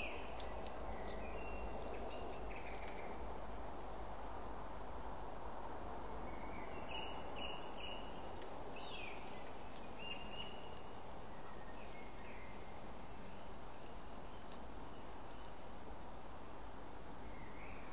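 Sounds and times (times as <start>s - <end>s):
microphone hiss with low hum: 0.0s - 17.9s.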